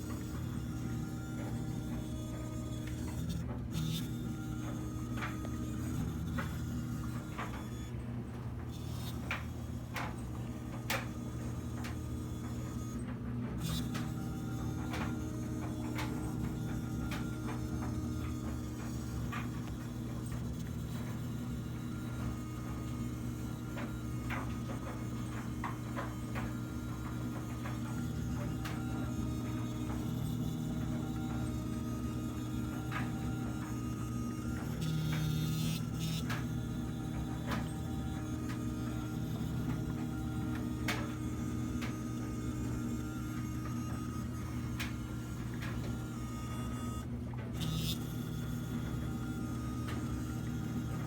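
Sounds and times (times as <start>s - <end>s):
low buzzing vibration: 0.0s - 51.0s.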